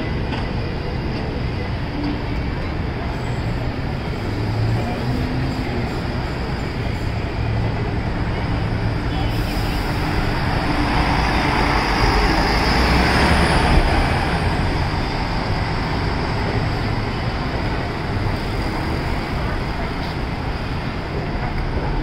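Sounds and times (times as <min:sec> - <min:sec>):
bus driving past: 0:00.0 - 0:22.0
city street traffic: 0:00.0 - 0:22.0.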